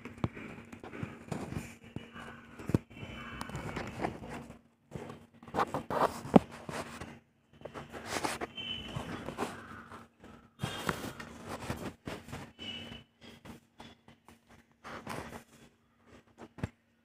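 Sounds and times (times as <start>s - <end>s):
stick tapping and scraping: 0.0s - 15.6s.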